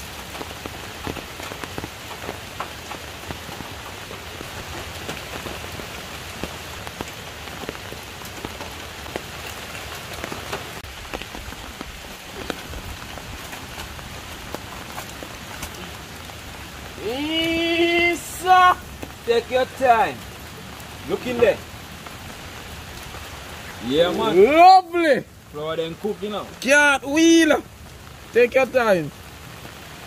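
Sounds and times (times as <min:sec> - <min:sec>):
raindrops ticking on surfaces: 0:00.0 - 0:30.0
steady rain falling: 0:00.0 - 0:30.0.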